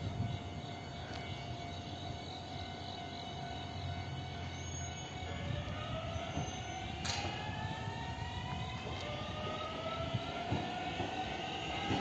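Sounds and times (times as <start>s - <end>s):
train accelerating with rising whine: 0.0s - 12.0s.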